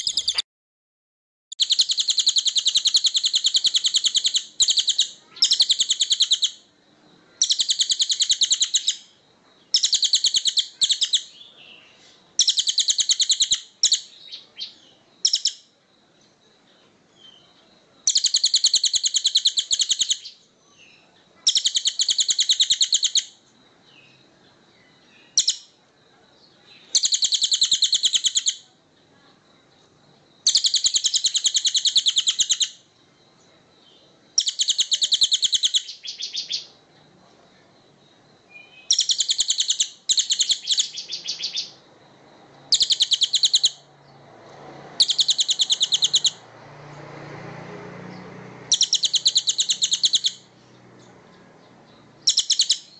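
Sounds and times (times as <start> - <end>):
songbird buzzy rattling trill: 0.0 - 0.4, 1.5 - 11.5, 12.3 - 15.7, 17.0 - 20.5, 21.4 - 24.3, 24.9 - 25.8, 26.6 - 28.7, 29.7 - 32.9, 33.9 - 36.8, 38.4 - 44.3, 44.9 - 52.9.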